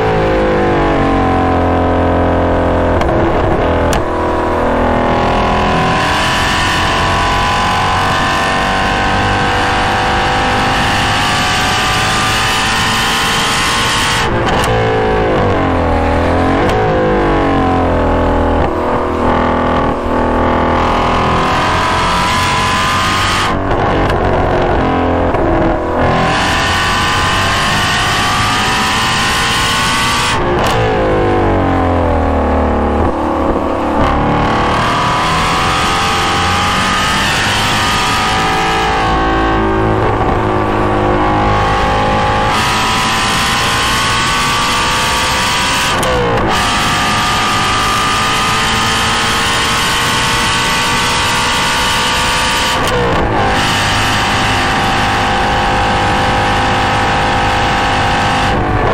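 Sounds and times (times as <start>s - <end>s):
car engine revving at full throttle: 0.0s - 58.9s.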